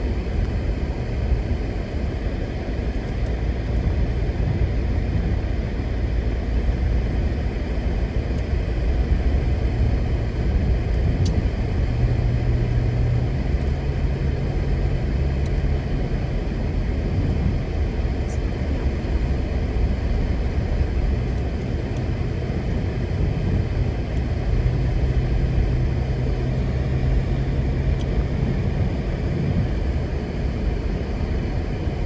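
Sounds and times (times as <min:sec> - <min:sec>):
car interior road rumble: 0:00.0 - 0:32.0.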